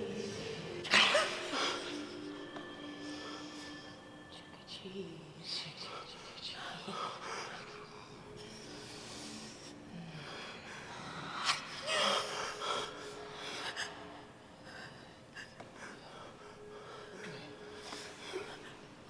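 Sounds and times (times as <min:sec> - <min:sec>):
person breathing: 0:00.0 - 0:04.5, 0:05.7 - 0:19.0.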